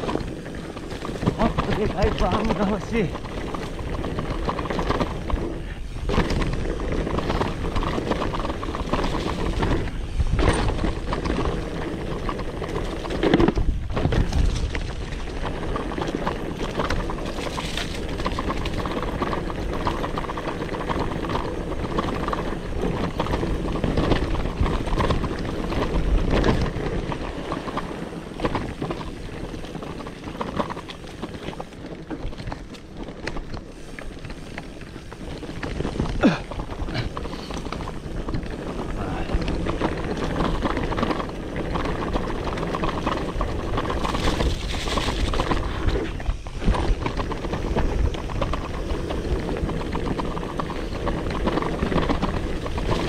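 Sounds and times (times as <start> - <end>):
bike rattling: 0.0 - 53.0
bike tyres on rough ground: 0.0 - 53.0
wind on microphone: 0.0 - 53.0.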